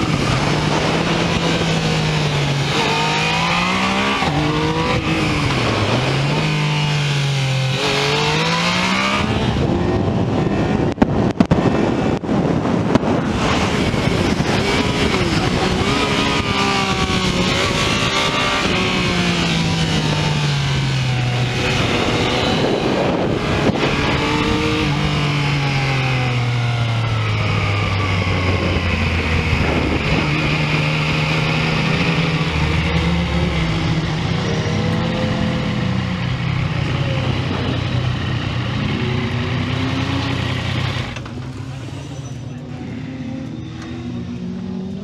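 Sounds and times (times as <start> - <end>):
wind rush: 0.0 - 41.2.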